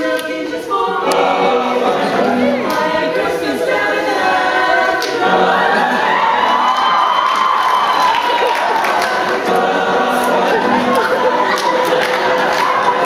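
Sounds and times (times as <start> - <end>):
male choir singing in harmony: 0.0 - 13.0.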